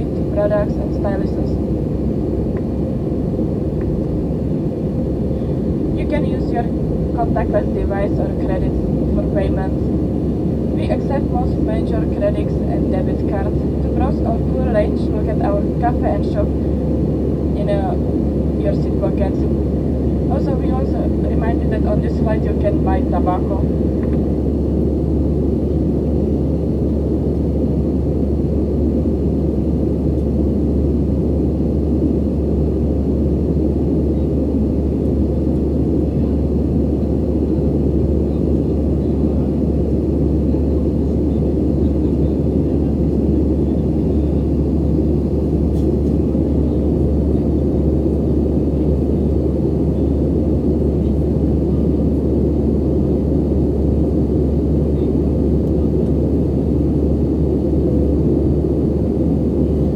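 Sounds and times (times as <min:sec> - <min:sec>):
low rumble of engines and airflow: 0:00.0 - 0:59.9.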